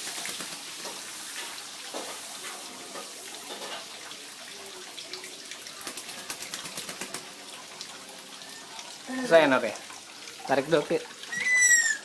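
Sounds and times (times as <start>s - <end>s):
running water splashing: 0.0s - 12.0s.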